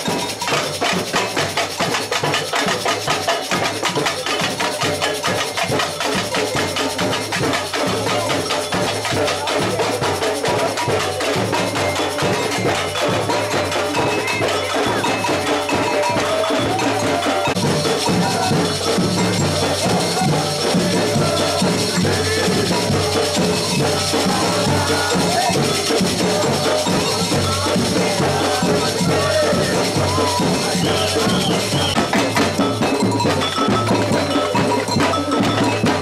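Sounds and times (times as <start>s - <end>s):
samba drums: 0.0s - 36.0s.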